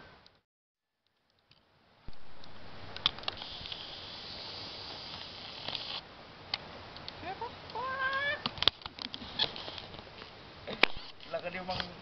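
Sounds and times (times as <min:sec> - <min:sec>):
steady high hiss: 0:01.2 - 0:12.0.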